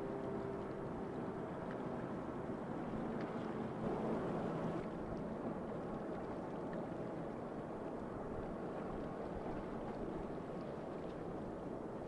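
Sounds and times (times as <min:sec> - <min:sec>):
ship engine low rumble: 0:00.0 - 0:12.0
water along ship hull: 0:00.0 - 0:12.0.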